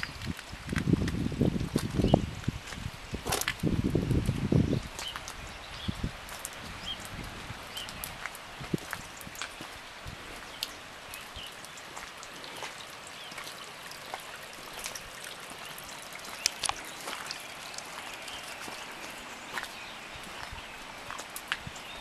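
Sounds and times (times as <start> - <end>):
water drips and taps: 0.0 - 5.4, 6.3 - 21.9
light rain pattering: 0.0 - 22.0.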